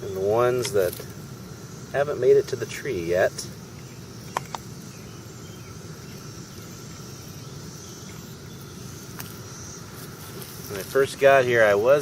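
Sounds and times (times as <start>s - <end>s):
distant cicadas droning: 0.0s - 12.0s.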